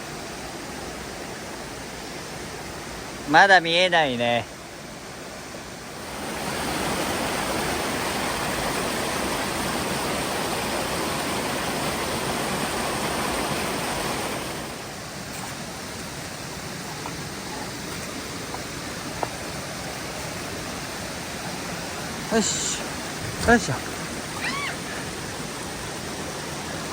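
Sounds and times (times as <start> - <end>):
stream water rushing over rocks: 0.0 - 26.9.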